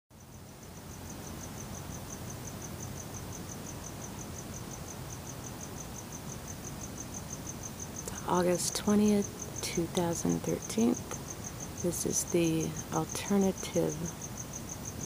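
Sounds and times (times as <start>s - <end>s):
cricket chirping: 0.1s - 15.0s
faint low background hiss: 0.2s - 15.0s.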